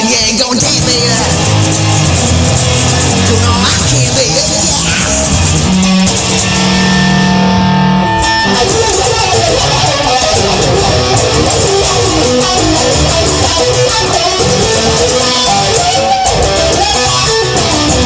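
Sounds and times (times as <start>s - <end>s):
electric guitar playing: 0.0s - 18.0s
steady rock beat: 0.0s - 18.0s.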